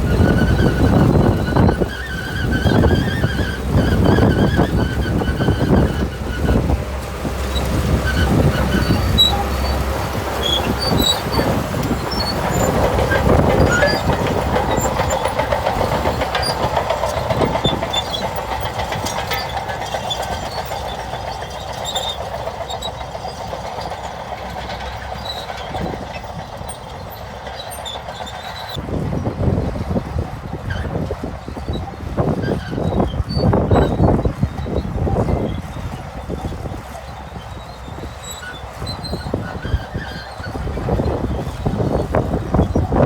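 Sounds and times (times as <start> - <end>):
diesel engine running: 0.0 - 43.0
steel tracks clattering: 0.0 - 43.0.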